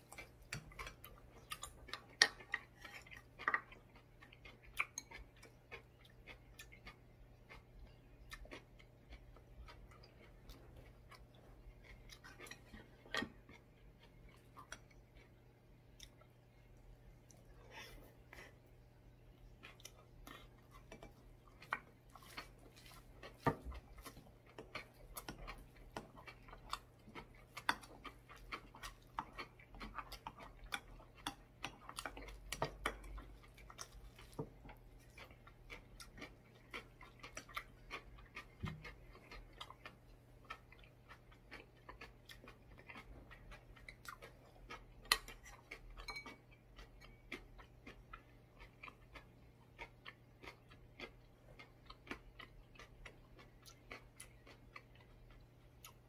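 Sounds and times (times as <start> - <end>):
chewing with wet mouth clicks: 0.0 - 18.7, 19.3 - 56.0
faint low hum: 0.0 - 56.0.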